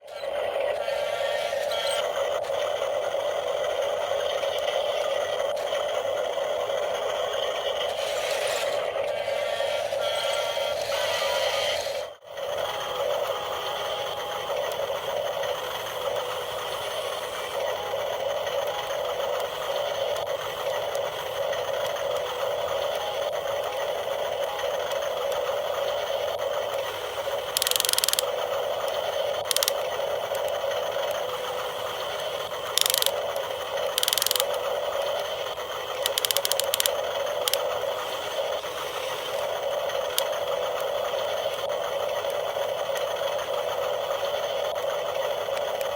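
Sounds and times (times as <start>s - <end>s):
small electric motors whirring: 0.0s - 45.9s.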